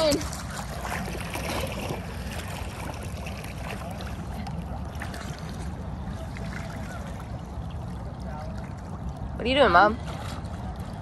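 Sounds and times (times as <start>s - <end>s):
swimmer splashing water: 0.0s - 11.0s.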